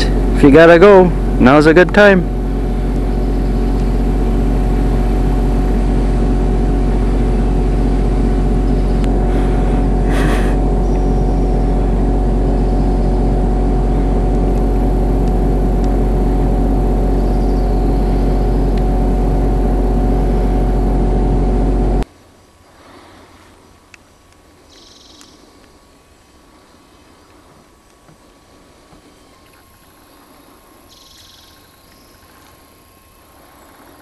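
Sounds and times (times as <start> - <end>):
engine humming steadily: 0.0 - 34.0.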